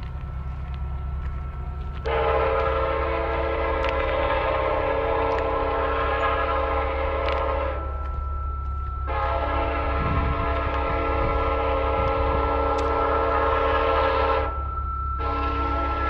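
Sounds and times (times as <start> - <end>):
low rumble of running train: 0.0 - 16.0
train horn blast: 2.0 - 8.1, 9.0 - 16.0.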